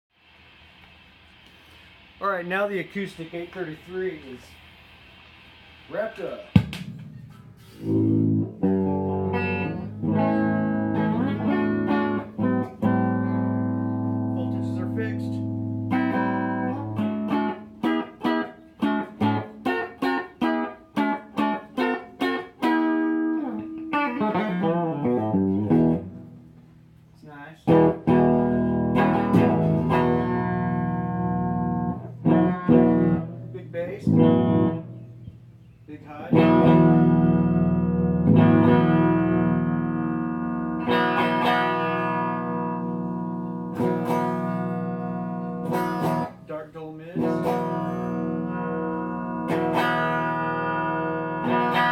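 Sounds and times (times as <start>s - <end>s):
electric guitar chords and notes: 5.8s - 51.9s.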